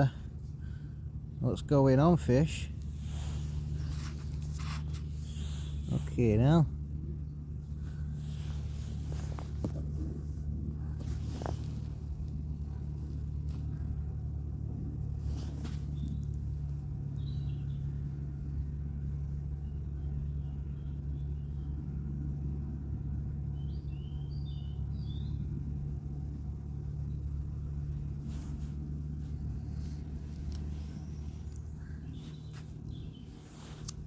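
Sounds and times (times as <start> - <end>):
small birds chirping: 0.0 - 14.4, 15.0 - 21.8, 23.3 - 34.0
low rumble with hum: 0.0 - 34.0.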